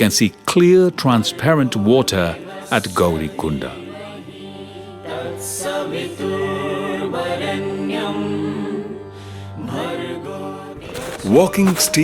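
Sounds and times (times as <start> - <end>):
voices singing held notes: 0.0 - 12.0.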